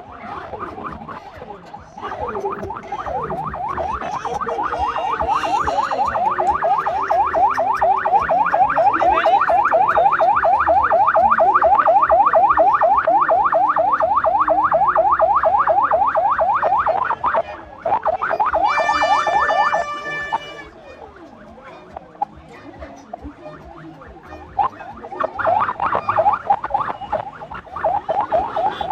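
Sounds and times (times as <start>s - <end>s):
electronic siren yelping: 0.0s - 28.9s
siren steady held tone: 0.0s - 28.9s.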